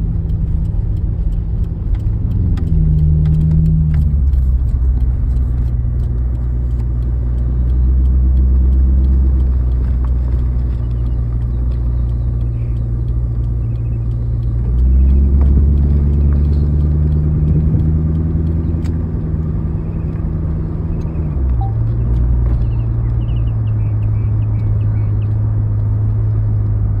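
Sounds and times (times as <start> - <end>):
car engine drone from inside: 0.0 - 27.0.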